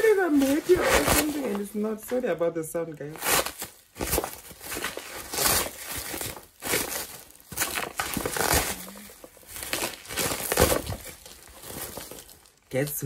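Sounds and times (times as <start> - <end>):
packaging crinkling: 0.0 - 2.4, 3.1 - 13.0.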